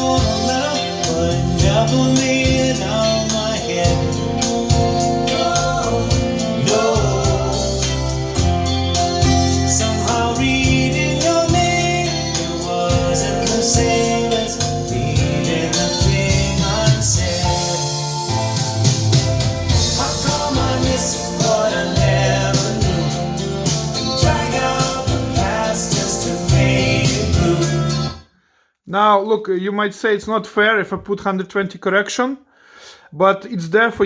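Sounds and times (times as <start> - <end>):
pop song with singing: 0.0 - 28.4.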